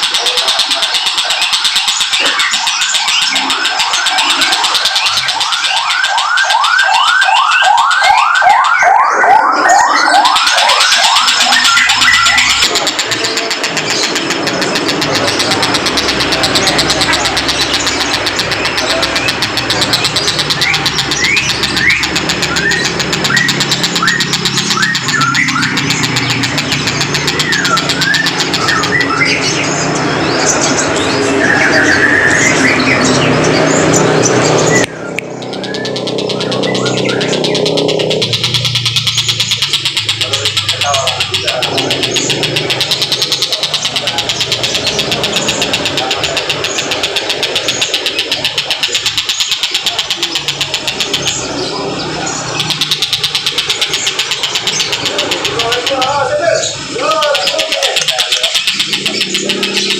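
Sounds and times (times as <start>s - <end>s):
fast high ticking: 0.0s - 59.9s
kingfisher calling: 0.0s - 59.9s
engine running: 11.1s - 59.9s.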